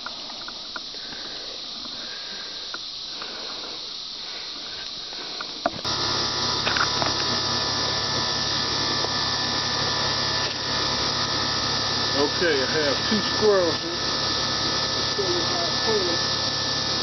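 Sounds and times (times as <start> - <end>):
high hiss: 0.0 - 17.0
high-pitched insect chorus: 0.0 - 17.0
steady low hum: 0.0 - 17.0.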